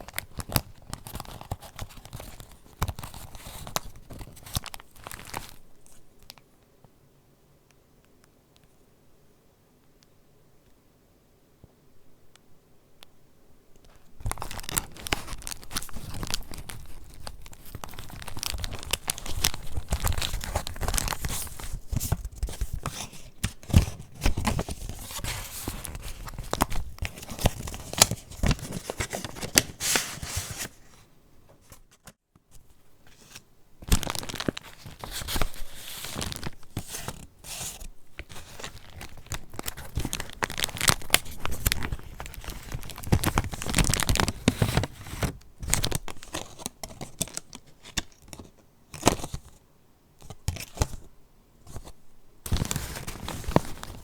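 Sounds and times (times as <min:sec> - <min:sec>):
paper pages rustling: 0:00.0 - 0:06.0, 0:13.9 - 0:31.0, 0:31.6 - 0:49.3, 0:51.7 - 0:54.0.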